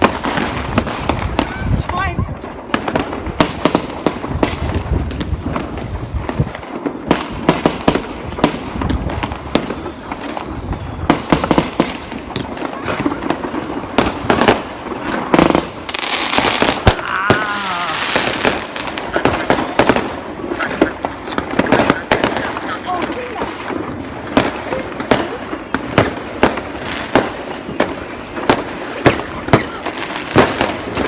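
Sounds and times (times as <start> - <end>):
fireworks and firecrackers banging: 0.0 - 31.0.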